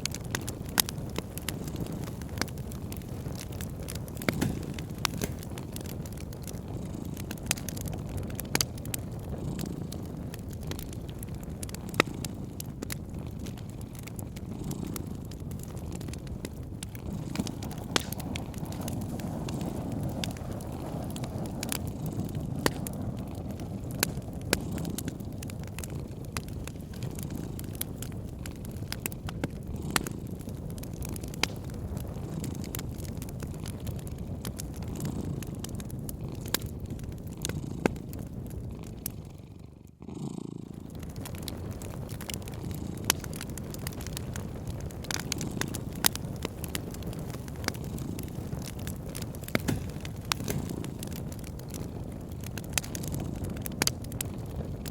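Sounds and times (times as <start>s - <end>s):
cat purring: 0.0s - 54.9s
wood fire crackling: 0.0s - 54.9s.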